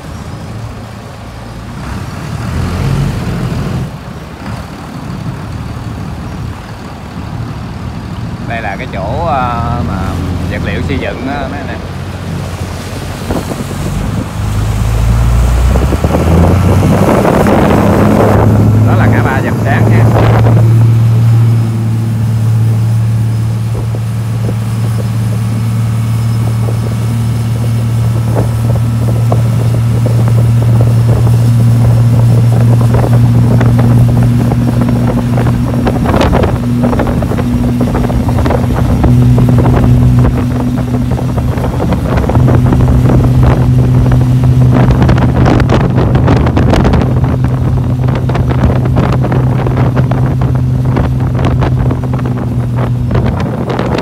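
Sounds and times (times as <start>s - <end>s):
rushing water: 0.0s - 54.0s
speedboat engine drone: 0.0s - 54.0s
wind noise on microphone: 0.0s - 54.0s.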